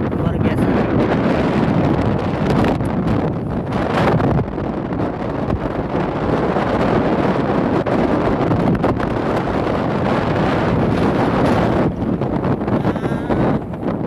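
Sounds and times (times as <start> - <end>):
choppy water: 0.0 - 14.0
motor boat engine: 0.0 - 14.0
wind buffeting microphone: 0.0 - 14.0.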